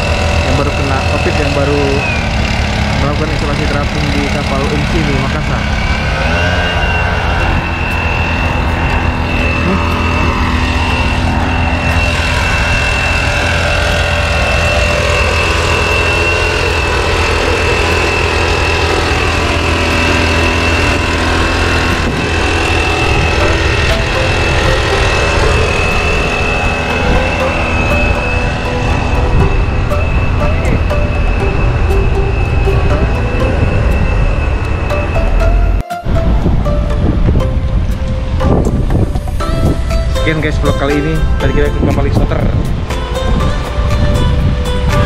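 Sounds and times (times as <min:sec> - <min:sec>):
mechanical drone with high whine: 0:00.0 - 0:45.0
wind rumble on microphone: 0:00.0 - 0:45.0.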